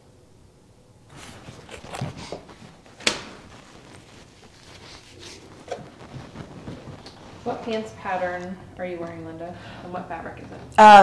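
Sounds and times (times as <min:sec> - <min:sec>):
rustling handling noises: 0:01.1 - 0:11.0.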